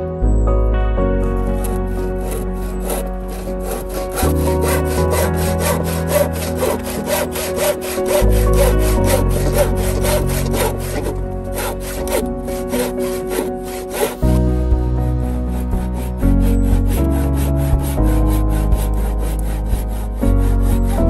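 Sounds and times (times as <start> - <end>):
background music: 0.0 - 21.0
hand saw cutting wood: 1.5 - 21.0.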